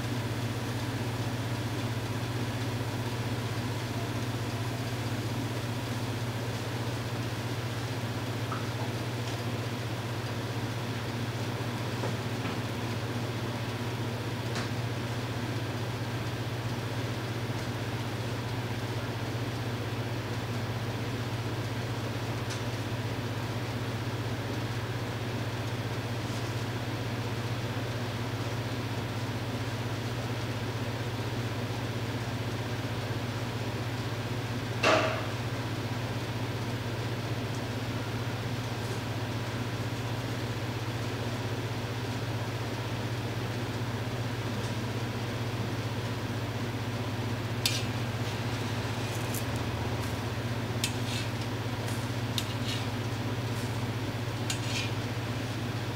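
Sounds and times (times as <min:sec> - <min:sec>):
kitchen equipment humming: 0:00.0 - 0:55.9.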